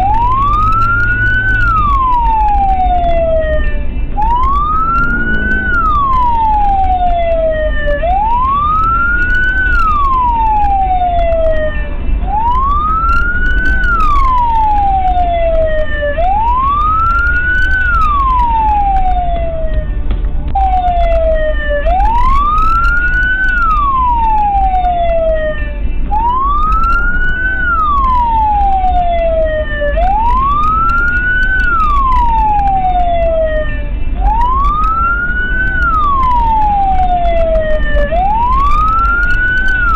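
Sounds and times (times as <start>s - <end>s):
car driving rumble: 0.0s - 39.9s
emergency vehicle siren wailing: 0.0s - 39.9s.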